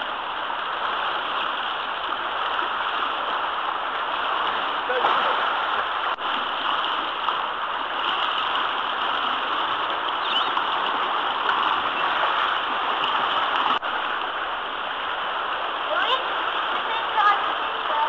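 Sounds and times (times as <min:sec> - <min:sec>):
kayak paddle churning water: 0:00.0 - 0:18.0
water splashing and rushing indoors: 0:00.0 - 0:18.0.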